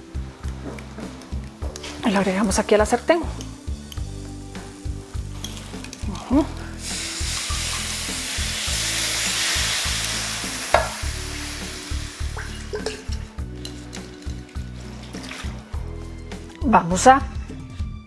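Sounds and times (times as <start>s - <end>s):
liquid sizzling in a hot skillet: 0.1s - 16.5s.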